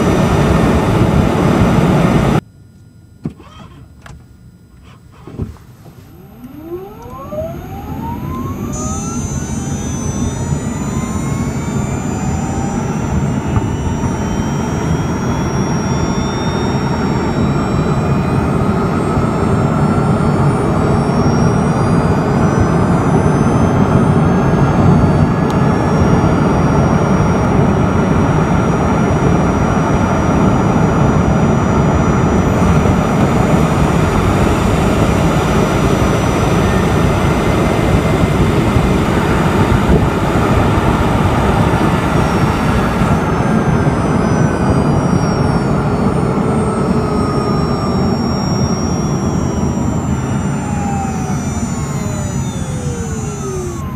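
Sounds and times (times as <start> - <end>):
electric motor whining: 0.0 - 53.9.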